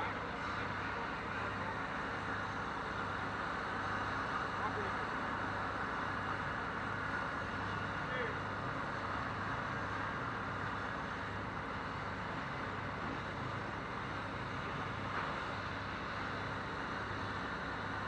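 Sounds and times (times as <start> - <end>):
crane engine humming: 0.0 - 18.0.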